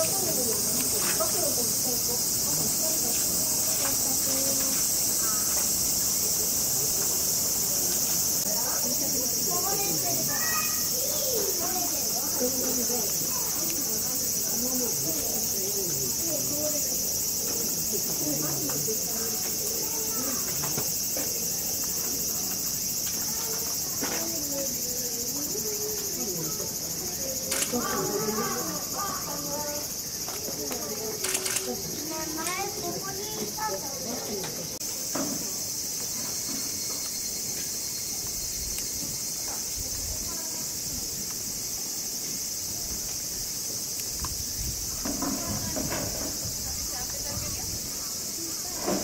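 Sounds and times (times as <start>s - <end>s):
cicadas shrilling: 0.0s - 49.0s
faint distant voices: 0.0s - 49.0s
insects chirring: 0.0s - 49.0s.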